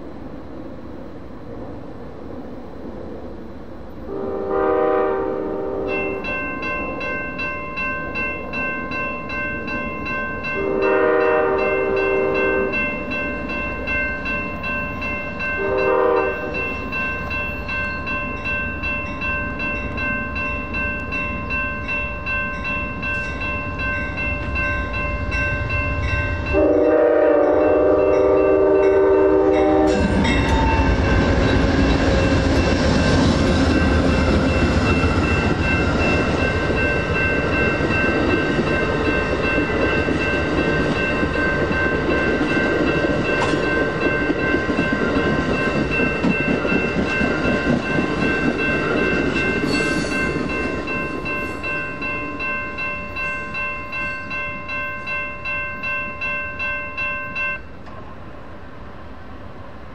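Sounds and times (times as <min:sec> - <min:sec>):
diesel locomotives rumbling past: 0:00.0 - 0:59.9
crossing bells ringing: 0:04.5 - 0:57.9
train wheels clattering: 0:05.8 - 0:58.1.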